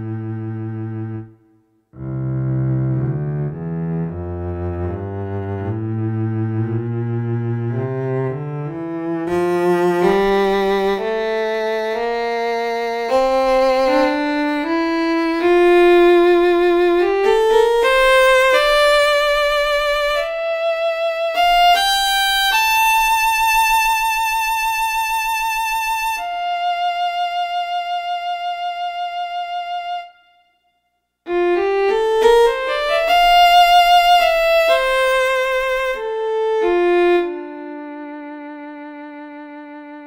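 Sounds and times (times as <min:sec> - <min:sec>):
bowed string melody: 0:00.0 - 0:30.6, 0:31.3 - 0:40.0.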